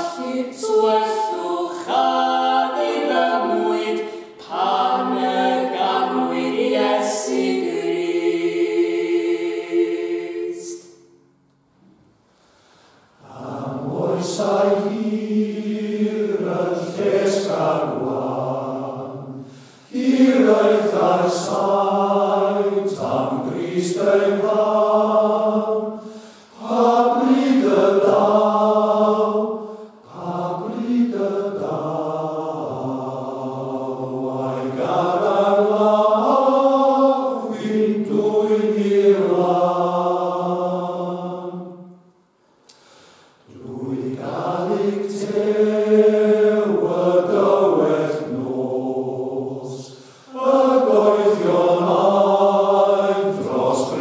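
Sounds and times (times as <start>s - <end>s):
men's choir singing in harmony: 0.0s - 11.2s, 13.2s - 42.0s, 43.5s - 54.0s.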